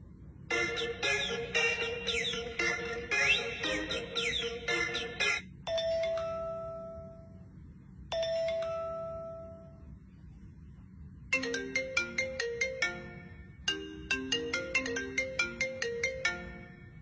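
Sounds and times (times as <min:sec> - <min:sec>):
repeating ringtone melody: 0:00.5 - 0:07.2, 0:08.1 - 0:09.6, 0:11.4 - 0:17.0.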